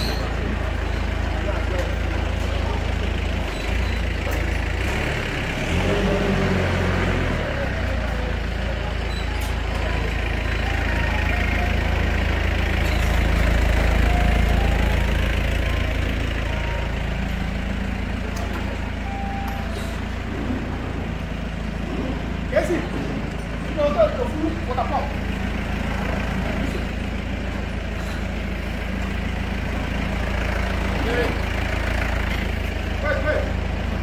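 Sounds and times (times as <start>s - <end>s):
heavy engine idling: 0.0s - 34.0s.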